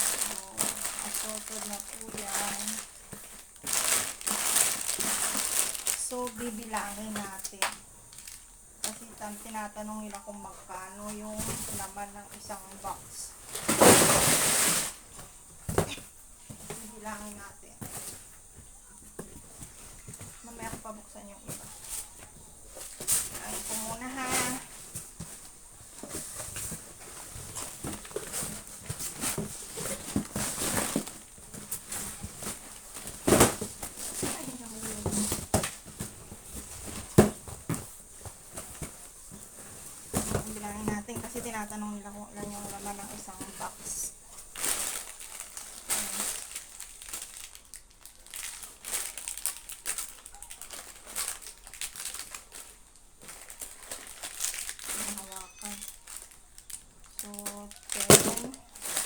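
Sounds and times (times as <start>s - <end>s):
packaging crinkling: 0.0s - 59.0s.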